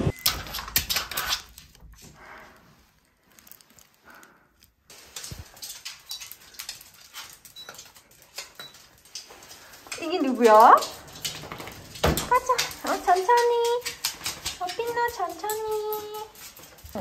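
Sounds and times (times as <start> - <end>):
claws clicking on wooden floor: 3.3 - 17.0.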